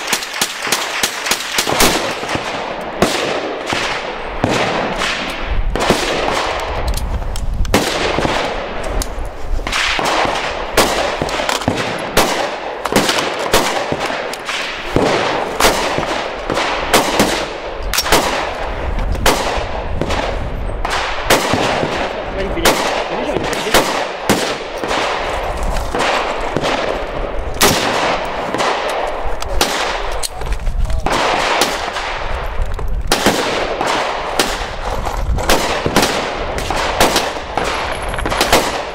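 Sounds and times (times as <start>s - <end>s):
gunshots with echo: 0.0s - 6.8s, 9.6s - 30.2s, 31.0s - 32.5s, 33.1s - 38.9s.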